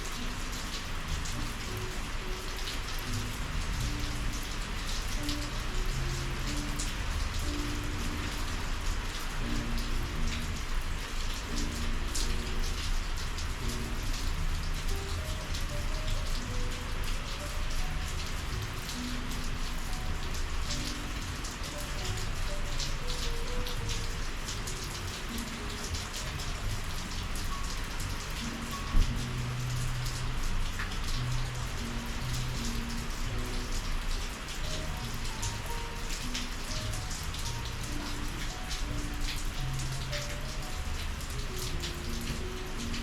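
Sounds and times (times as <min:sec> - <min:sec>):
rain falling: 0:00.0 - 0:43.0
raindrops striking close by: 0:00.0 - 0:43.0.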